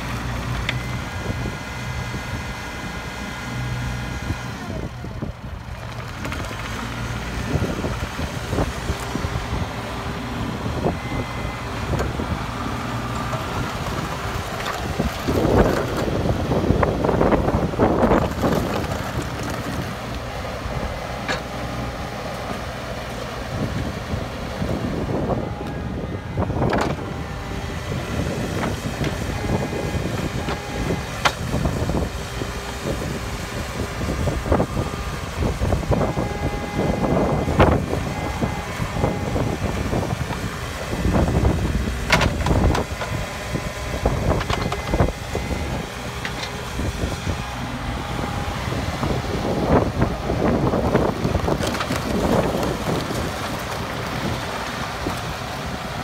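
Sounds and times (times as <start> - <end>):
hydraulic whine: 0.0 - 19.9, 20.6 - 53.0
excavator diesel engine: 0.0 - 56.0.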